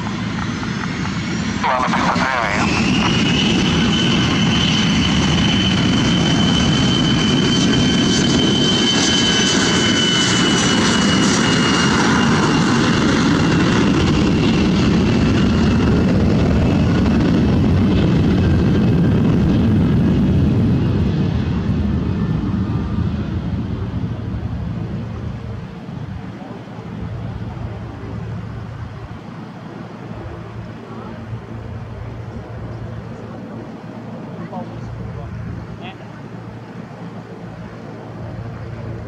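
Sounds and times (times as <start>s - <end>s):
jet taking off: 0.0s - 39.0s.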